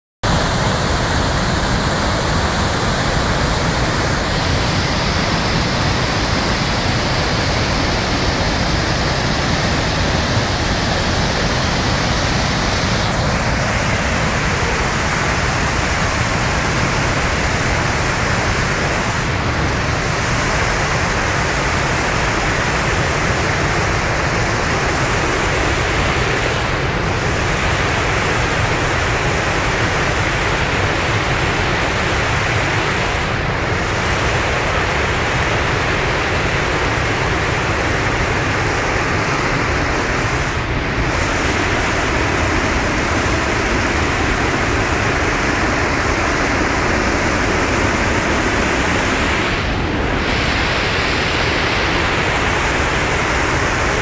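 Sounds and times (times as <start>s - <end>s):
floodwater pouring over spillway: 0.3s - 54.0s.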